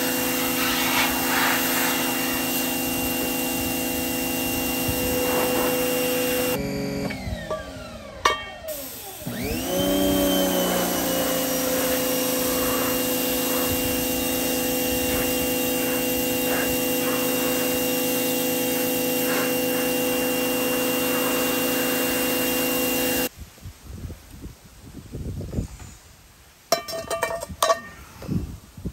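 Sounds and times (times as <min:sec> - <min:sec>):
pressure washer whine and spray: 0:00.0 - 0:23.3.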